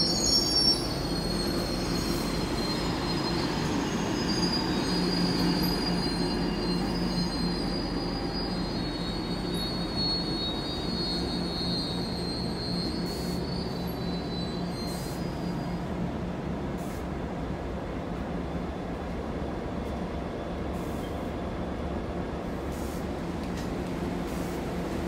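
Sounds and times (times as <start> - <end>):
train wheels squealing on rails: 0.0 - 25.0.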